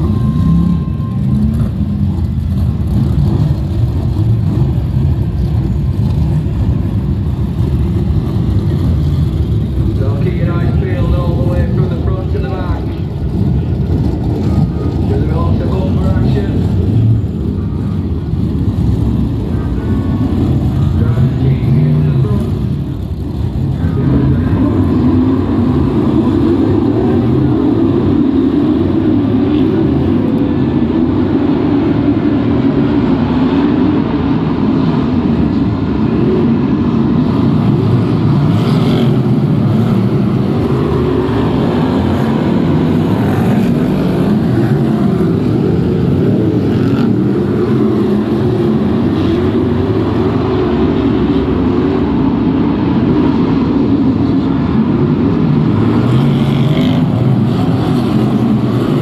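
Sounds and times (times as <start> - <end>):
race car engines idling: 0.0 - 59.0.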